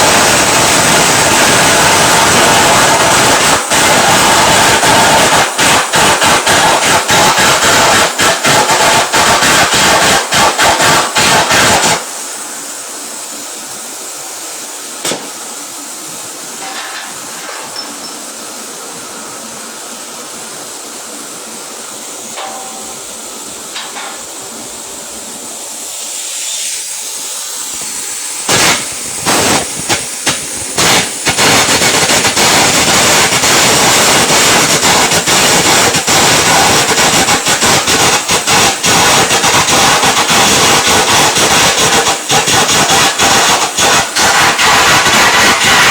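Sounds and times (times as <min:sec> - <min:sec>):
welding arc crackling: 0:00.0 - 0:12.2, 0:14.6 - 0:18.2, 0:22.2 - 0:26.9, 0:27.6 - 0:45.9.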